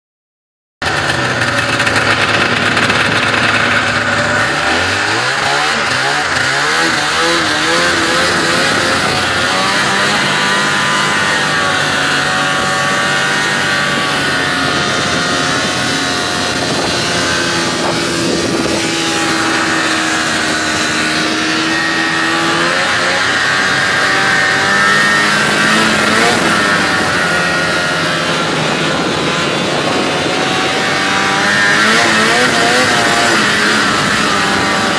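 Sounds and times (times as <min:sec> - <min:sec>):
snowmobile engines revving: 0:00.8 - 0:34.9.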